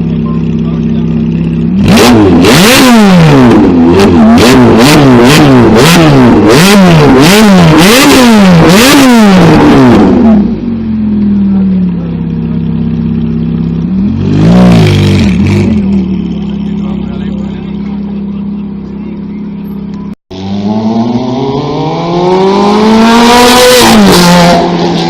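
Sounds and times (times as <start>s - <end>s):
car engine idling: 0.0s - 20.2s
car engine revving: 0.0s - 25.0s.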